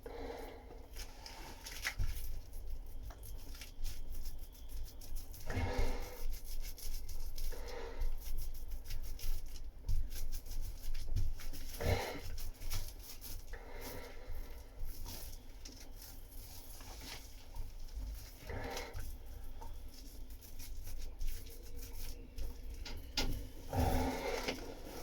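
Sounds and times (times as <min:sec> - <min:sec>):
brush rubbing and dabbing resin: 0:00.9 - 0:25.0.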